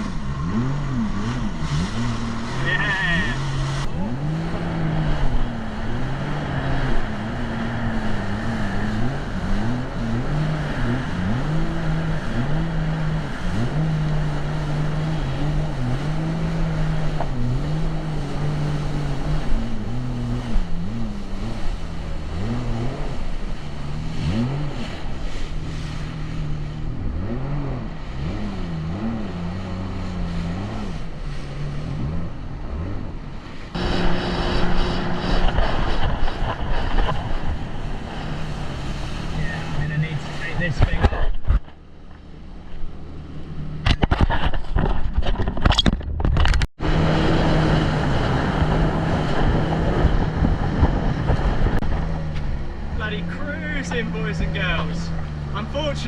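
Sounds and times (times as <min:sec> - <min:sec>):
jet ski engines revving: 0:00.0 - 0:45.8, 0:46.8 - 0:56.0.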